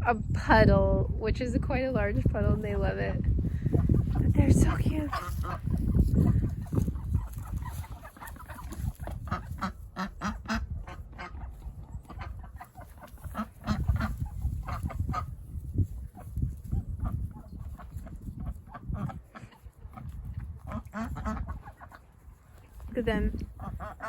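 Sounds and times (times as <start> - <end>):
ducks quacking: 3.5 - 24.0.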